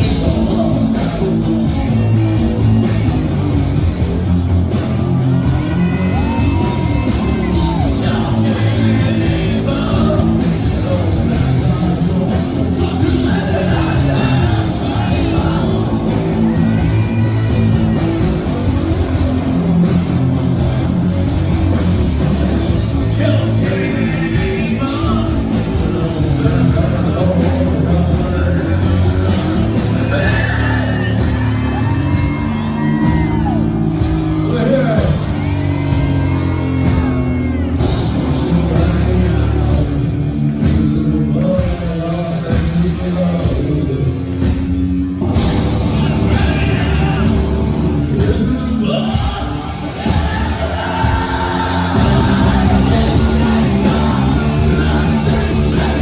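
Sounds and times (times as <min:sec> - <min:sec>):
live heavy rock band: 0:00.0 - 0:56.0
sung and shouted vocals: 0:00.0 - 0:56.0.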